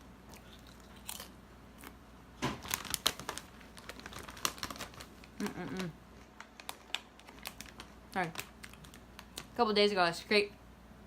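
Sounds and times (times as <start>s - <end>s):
plastic chip bag crinkling: 0.4s - 10.0s.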